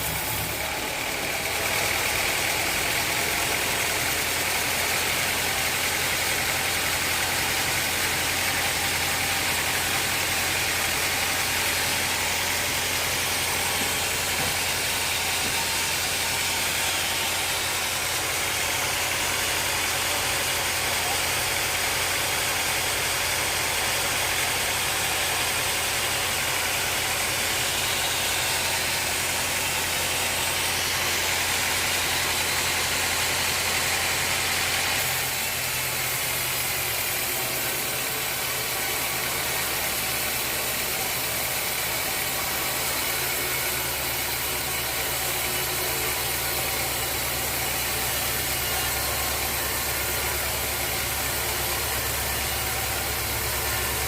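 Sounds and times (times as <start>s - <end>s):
sawmill motor hum: 0.0s - 54.0s.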